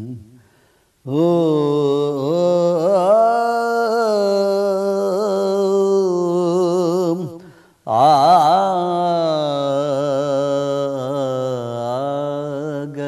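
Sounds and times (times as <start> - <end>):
man singing unaccompanied: 0.0 - 0.4, 1.0 - 13.0.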